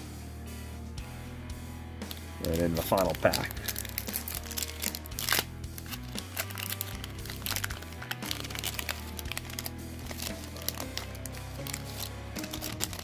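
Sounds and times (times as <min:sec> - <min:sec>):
background music with bass: 0:00.0 - 0:13.0
foil pack crinkling and tearing: 0:02.1 - 0:13.0.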